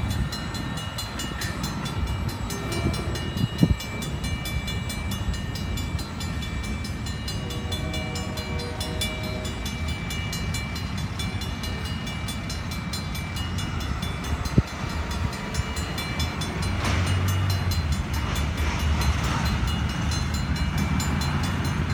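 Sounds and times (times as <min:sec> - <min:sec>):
crossing signal bell ringing: 0:00.0 - 0:21.9
train cars rumbling over rails: 0:00.0 - 0:21.9.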